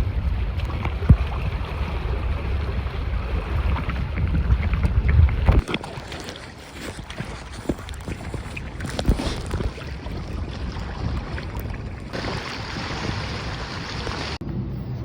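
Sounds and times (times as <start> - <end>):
water rushing along a hull: 0.0 - 14.4
wind on microphone: 0.0 - 14.4.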